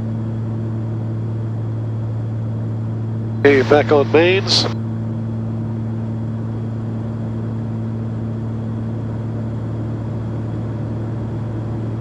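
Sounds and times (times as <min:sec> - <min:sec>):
aircraft engines droning in cockpit: 0:00.0 - 0:12.0.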